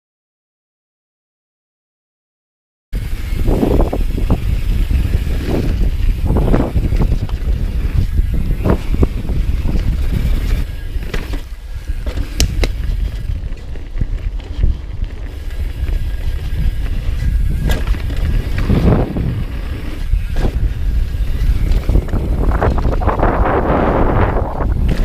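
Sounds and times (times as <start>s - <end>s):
bike clicks and rattles: 3.0s - 25.0s
tyres on loose dirt: 3.0s - 25.0s
wind rumbling on microphone: 3.0s - 25.0s.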